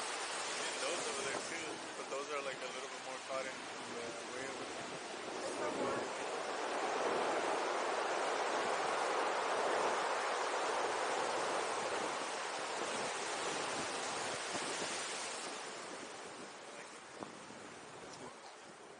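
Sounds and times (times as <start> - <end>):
ocean surf washing over pebbles: 0.0 - 18.8.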